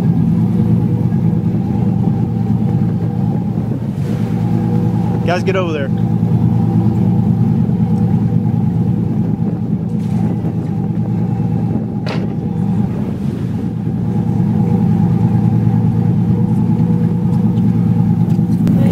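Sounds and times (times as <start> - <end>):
boat engine droning: 0.0 - 18.9.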